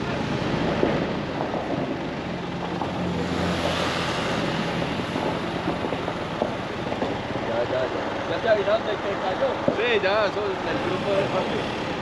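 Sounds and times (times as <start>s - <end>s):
road and tyre noise: 0.0s - 12.0s
suv engine drone: 0.0s - 12.0s.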